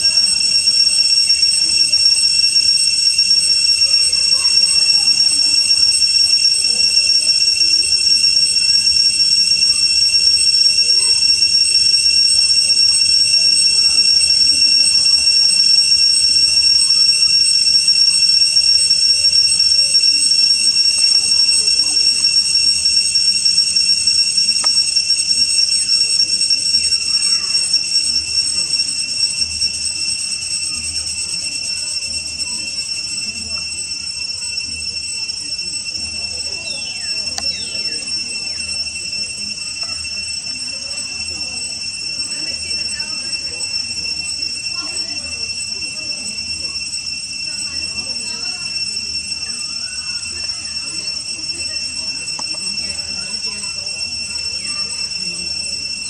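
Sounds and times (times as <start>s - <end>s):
faint voices: 0.0s - 56.0s
high-pitched insect drone: 0.0s - 56.0s.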